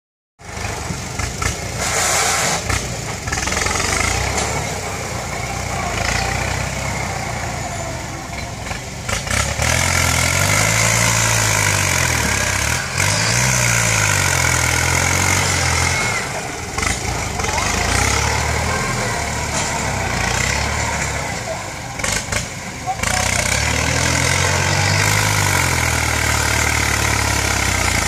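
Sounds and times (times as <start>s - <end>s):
dozer blade pushing soil: 0.4s - 28.0s
tractor diesel engine under load: 0.4s - 28.0s.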